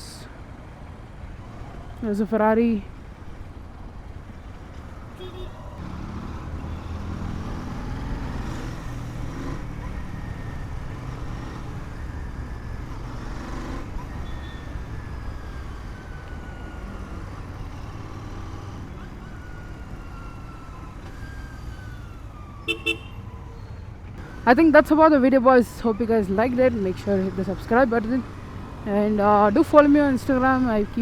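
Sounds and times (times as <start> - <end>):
motorcycle engine rumble: 0.0 - 31.0.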